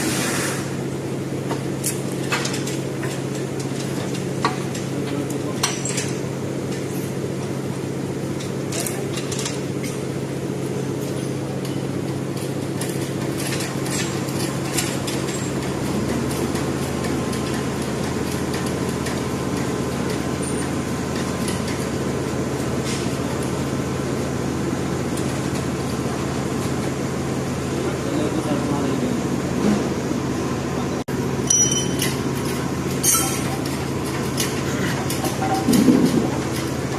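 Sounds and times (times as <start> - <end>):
low machine hum: 0.0 - 36.9.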